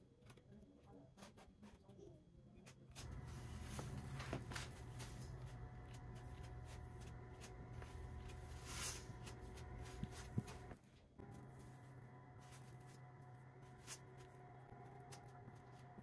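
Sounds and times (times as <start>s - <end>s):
low steady hum: 3.0s - 16.0s.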